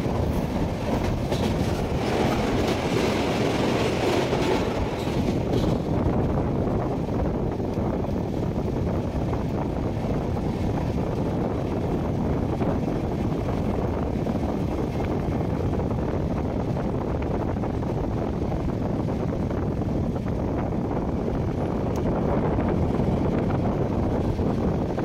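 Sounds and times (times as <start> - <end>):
train running rumble: 0.0 - 25.0
wind on the microphone: 0.0 - 25.0.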